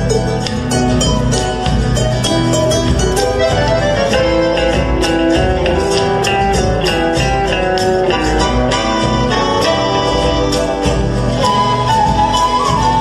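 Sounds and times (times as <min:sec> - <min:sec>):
folk music on guitars: 0:00.0 - 0:13.0.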